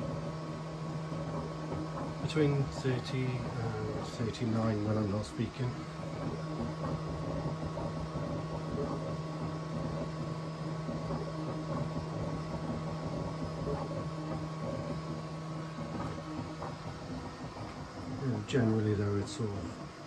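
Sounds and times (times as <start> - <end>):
print head mechanical noise: 0.0 - 20.0
three d printer humming: 0.0 - 20.0.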